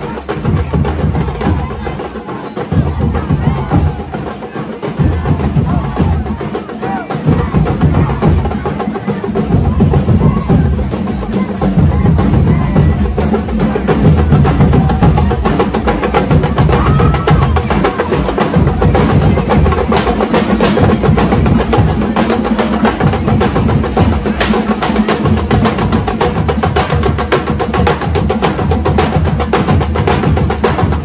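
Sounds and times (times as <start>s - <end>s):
barrel drums beaten fast: 0.0s - 31.0s.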